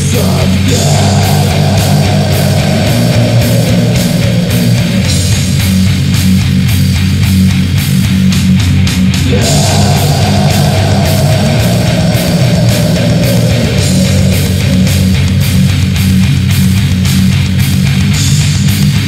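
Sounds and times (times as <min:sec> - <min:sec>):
death metal music: 0:00.0 - 0:19.0.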